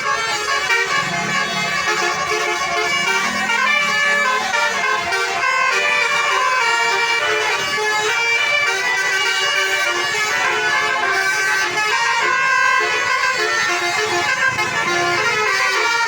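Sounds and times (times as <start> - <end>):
multi-tone bus horn melody: 0.0 - 16.0.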